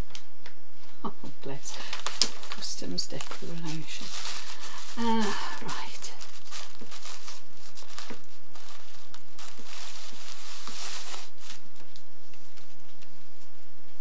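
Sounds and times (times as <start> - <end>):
tissue paper rustling: 1.5 - 13.7.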